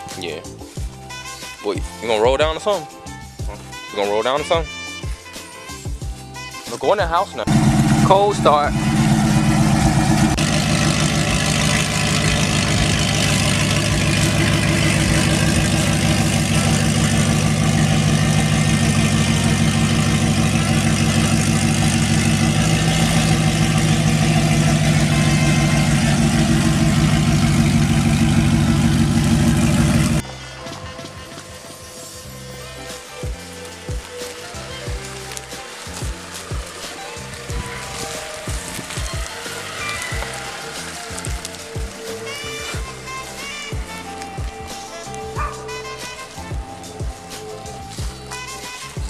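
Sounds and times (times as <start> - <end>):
car engine idling: 7.5 - 48.7.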